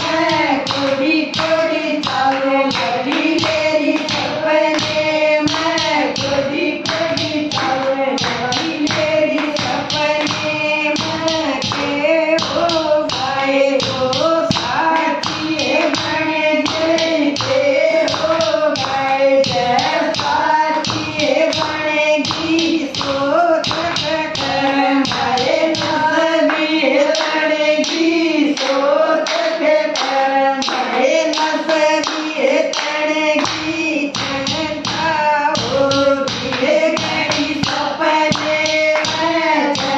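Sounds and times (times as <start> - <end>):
rhythmic hand-clapping: 0.0 - 39.9
women singing together: 0.0 - 39.9.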